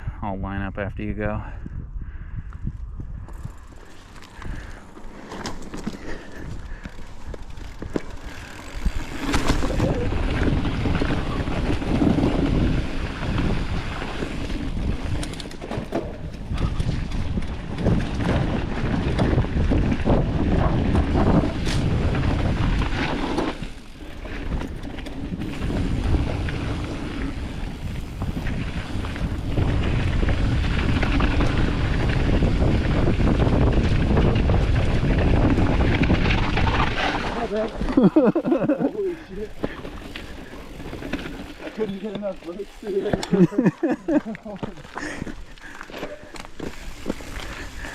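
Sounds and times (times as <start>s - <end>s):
wind buffeting microphone: 0.0s - 41.9s, 42.5s - 47.9s
mountain bike rolling on dirt: 1.0s - 47.9s
bike clicks over rough ground: 2.1s - 47.9s.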